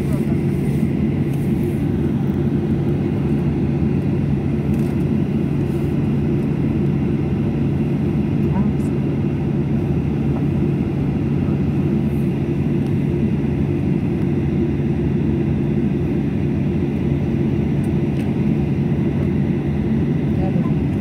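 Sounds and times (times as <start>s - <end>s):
airliner engines droning: 0.0s - 21.0s
constant low hum: 0.0s - 21.0s.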